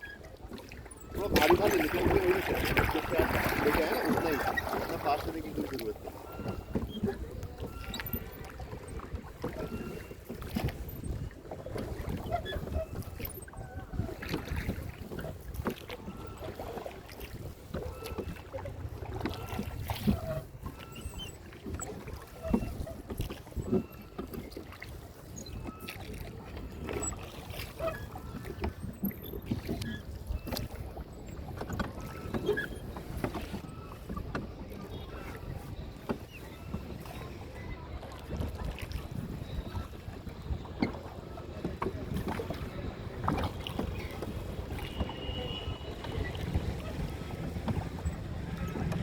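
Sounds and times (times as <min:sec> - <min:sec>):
oar splashes: 0:00.0 - 0:49.0
wind rumbling on microphone: 0:06.0 - 0:49.0.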